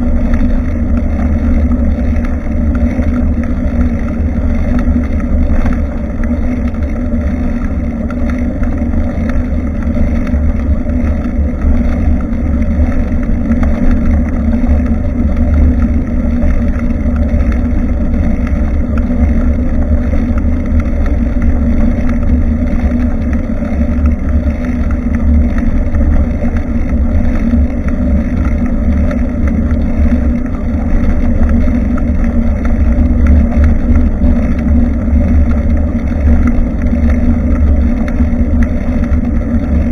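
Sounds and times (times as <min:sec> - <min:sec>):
bicycle rolling on road: 0:00.0 - 0:39.9
wind rumble on microphone: 0:00.0 - 0:39.9.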